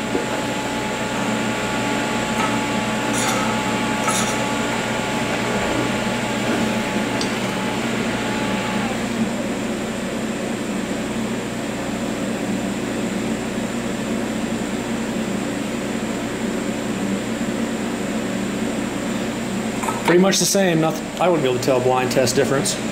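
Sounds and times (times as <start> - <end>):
fan hum: 0.0 - 22.9.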